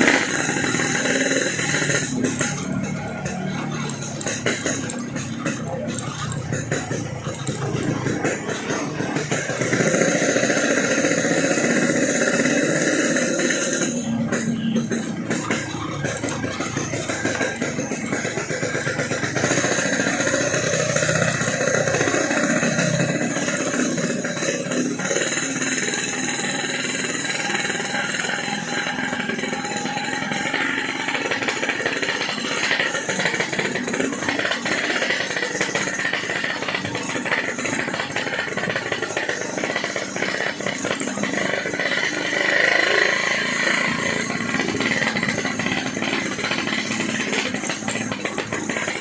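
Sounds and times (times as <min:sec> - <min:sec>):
two-stroke motorcycle engine running: 0:00.0 - 0:49.0.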